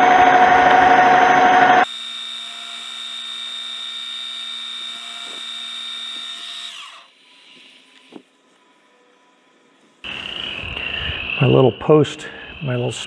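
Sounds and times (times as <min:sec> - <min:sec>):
metal lathe cutting: 0:00.0 - 0:12.9
lathe spindle whine: 0:00.0 - 0:13.0.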